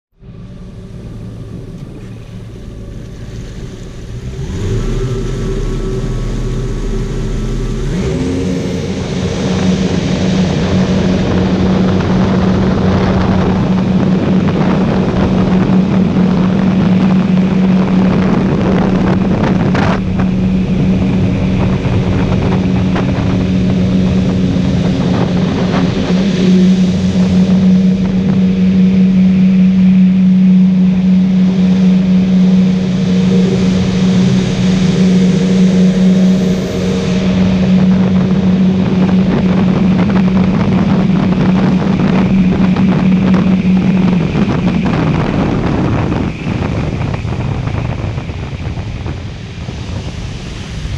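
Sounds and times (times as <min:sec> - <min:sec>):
jet boat engines accelerating: 0:00.1 - 0:50.9
water and wind rushing: 0:00.2 - 0:50.9.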